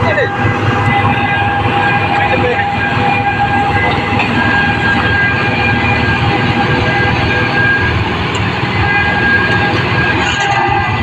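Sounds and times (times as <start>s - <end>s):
combine harvester drone: 0.0s - 11.0s
high machine whine: 0.0s - 11.0s.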